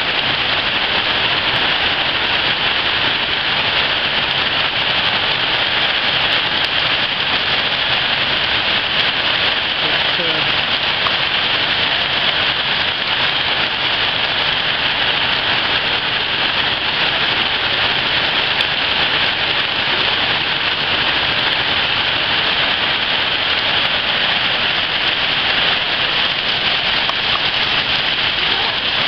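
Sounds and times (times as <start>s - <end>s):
heavy rain on puddles: 0.0s - 29.0s.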